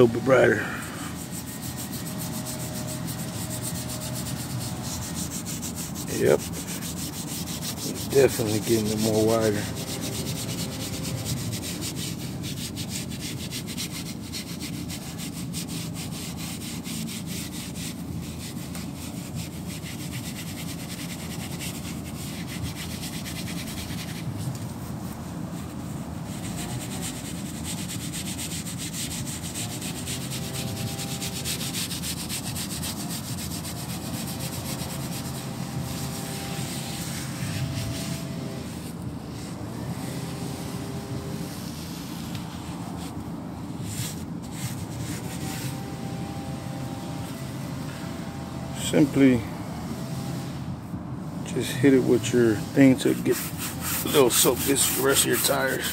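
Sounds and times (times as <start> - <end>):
steel wool scrubbing rubber tire: 0.0 - 49.4, 51.4 - 55.9.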